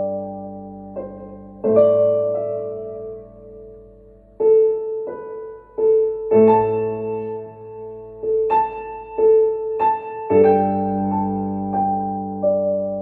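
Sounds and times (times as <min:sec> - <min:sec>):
low piano chords: 0:00.0 - 0:13.0
piano repeated note: 0:00.0 - 0:13.0.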